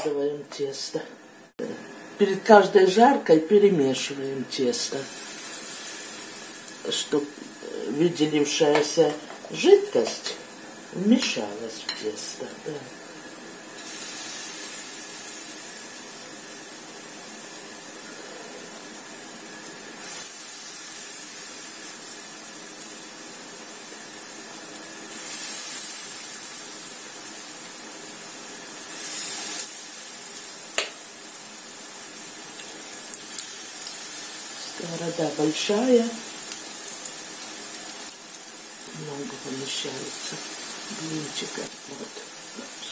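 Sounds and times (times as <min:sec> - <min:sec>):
batter sizzling in hot oil: 0:00.0 - 0:42.9.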